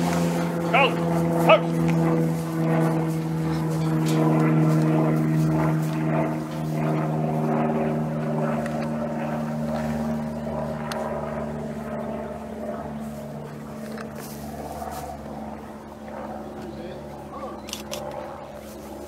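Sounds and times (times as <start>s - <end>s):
steady engine drone: 0.0s - 19.0s.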